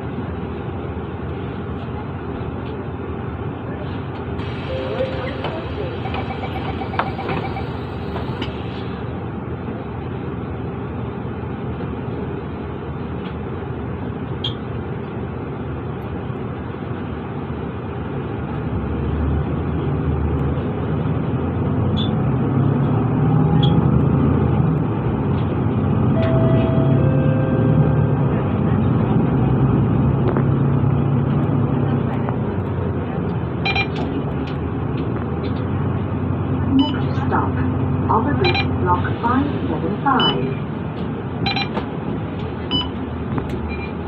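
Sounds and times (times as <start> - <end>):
bus diesel engine: 0.0 - 44.0.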